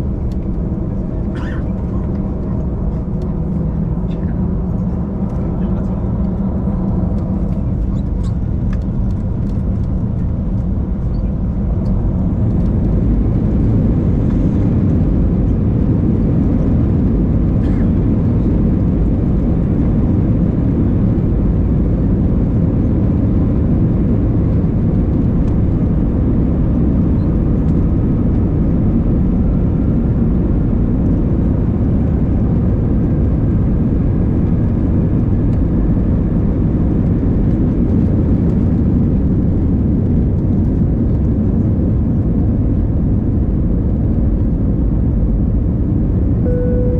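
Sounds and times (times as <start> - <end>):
jet engine cabin rumble: 0.0 - 46.9.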